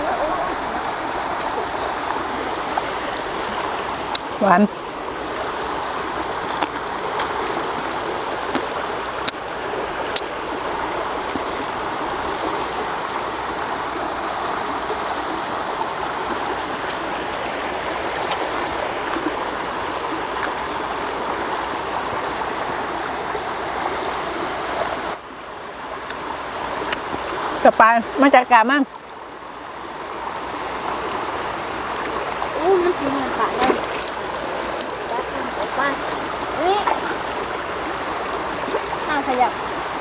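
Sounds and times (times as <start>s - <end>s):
water flowing in a stream: 0.0s - 40.0s.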